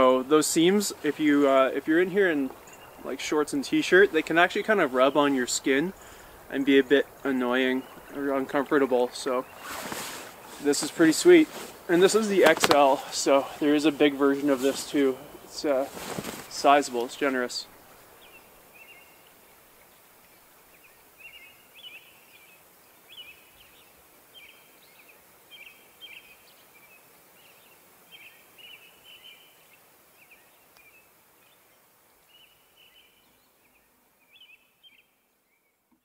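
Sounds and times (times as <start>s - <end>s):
quiet steady hiss: 0.0s - 36.0s.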